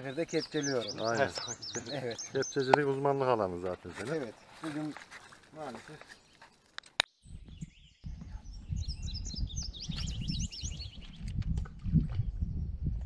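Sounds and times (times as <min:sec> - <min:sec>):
small bird chirping: 0:00.0 - 0:03.1, 0:04.0 - 0:11.4.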